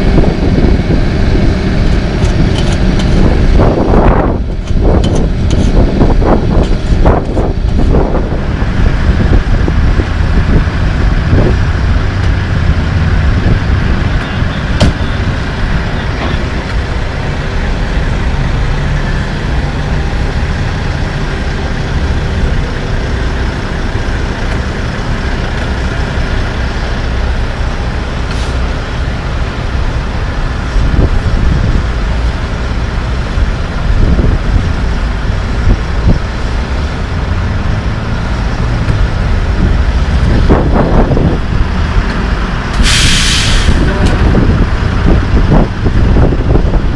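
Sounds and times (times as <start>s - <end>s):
diesel truck engine rumbling: 0.0s - 46.9s.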